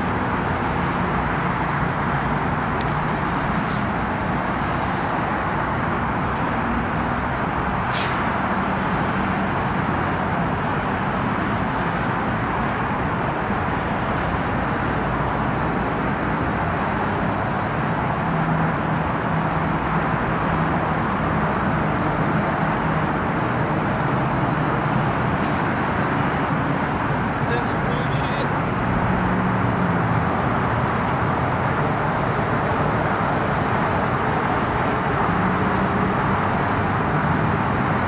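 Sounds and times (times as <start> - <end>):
dense freeway traffic: 0.0 - 38.0.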